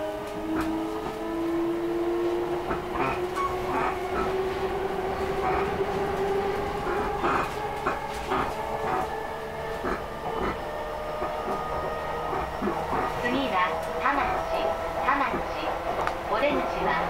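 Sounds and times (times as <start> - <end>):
train hum rising in pitch: 0.0 - 17.0
wheels clicking over rail joints: 2.3 - 17.0.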